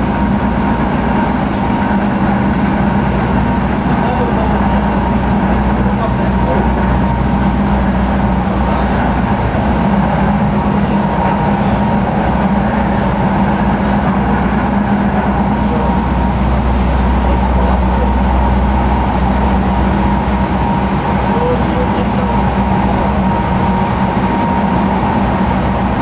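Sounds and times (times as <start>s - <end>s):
high whine: 0.0s - 26.0s
low hum: 0.0s - 26.0s
tram wheels rumbling on rail: 0.0s - 26.0s.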